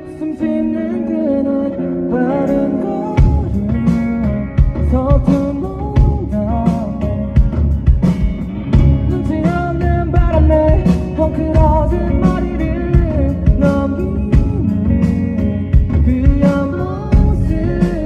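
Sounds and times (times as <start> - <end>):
lead vocal singing: 0.0 - 7.8, 8.7 - 18.0
rock band playing live: 0.0 - 18.0.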